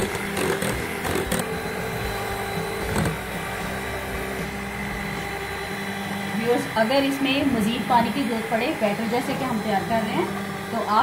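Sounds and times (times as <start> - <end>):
electric hand mixer whipping batter: 0.0 - 11.0.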